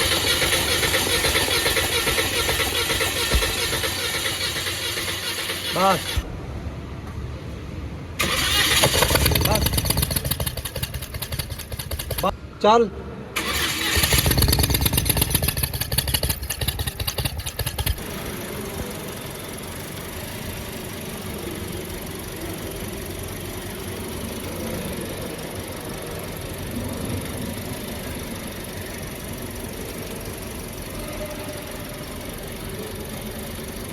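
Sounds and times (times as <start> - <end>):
car engine idling: 0.0 - 6.3, 8.2 - 12.3, 13.4 - 33.9.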